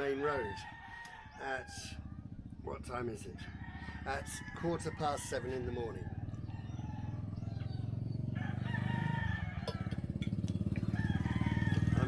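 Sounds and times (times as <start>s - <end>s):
rooster crowing: 0.0s - 2.1s, 3.4s - 10.1s, 10.8s - 12.0s
engine running with low pulse: 0.6s - 12.0s.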